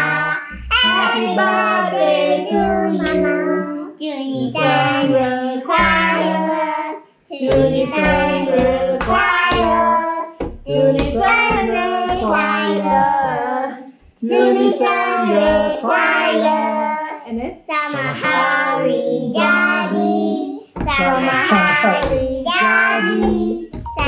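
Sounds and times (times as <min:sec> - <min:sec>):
children and adults singing: 0:00.0 - 0:17.2, 0:17.8 - 0:24.0
child's voice leading song: 0:00.0 - 0:24.0.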